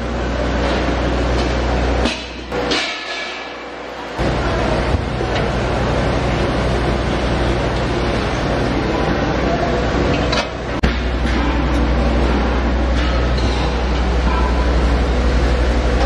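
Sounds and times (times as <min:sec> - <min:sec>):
factory machinery humming: 0:00.0 - 0:16.0.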